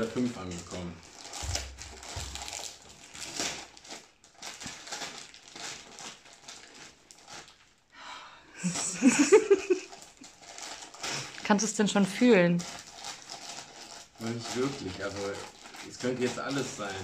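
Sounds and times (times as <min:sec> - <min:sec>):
wrapping paper tearing and crumpling: 0:00.0 - 0:07.9, 0:08.6 - 0:17.0.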